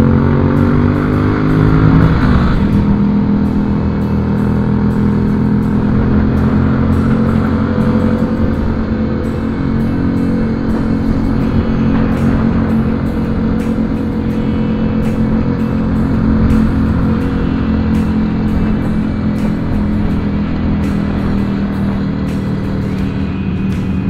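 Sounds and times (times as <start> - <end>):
motorcycle engine running: 0.0 - 24.0
music: 0.0 - 24.0.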